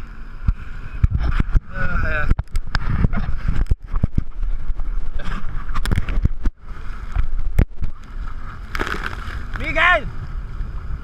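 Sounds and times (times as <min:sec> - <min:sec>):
jet ski engine rumble: 0:00.0 - 0:11.0.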